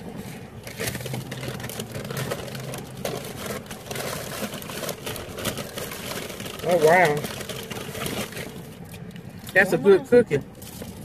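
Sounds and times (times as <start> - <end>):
car engine idling: 0.0 - 11.0
clicks and rustles of food handling: 0.1 - 9.6.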